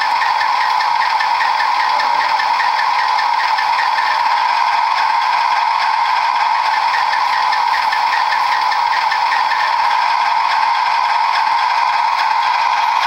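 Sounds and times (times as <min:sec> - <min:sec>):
model locomotive engine drone: 0:00.0 - 0:13.0.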